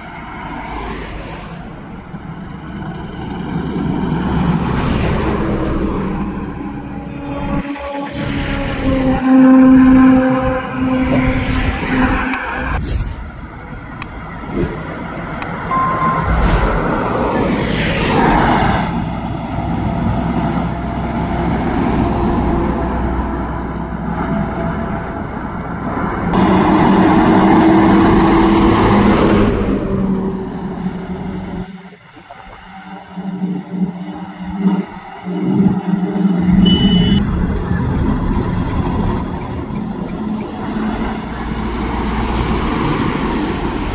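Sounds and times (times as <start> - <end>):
heavy truck engines running: 0.0 - 43.9.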